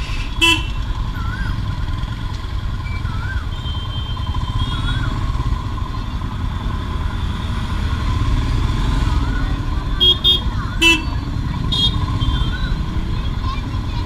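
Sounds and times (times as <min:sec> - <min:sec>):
motorcycle engine rumble: 0:00.0 - 0:14.0
wind and road noise: 0:00.0 - 0:14.0.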